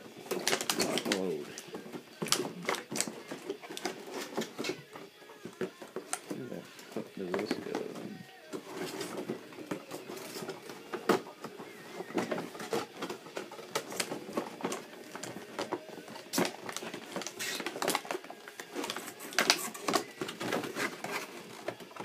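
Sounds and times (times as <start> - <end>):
plastic packaging clicks and crinkles: 0.0 - 22.0.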